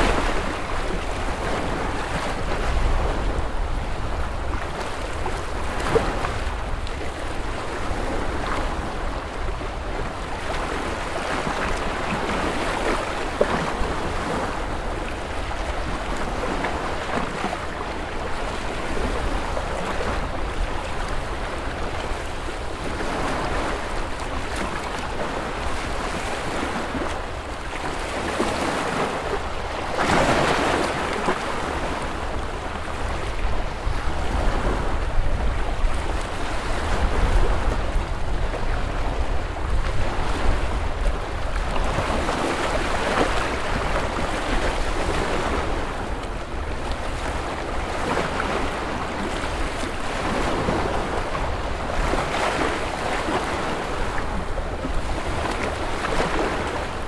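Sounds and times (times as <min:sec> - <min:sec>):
small waves washing on shore: 0:00.0 - 0:57.0
wind rumble on microphone: 0:00.0 - 0:57.0.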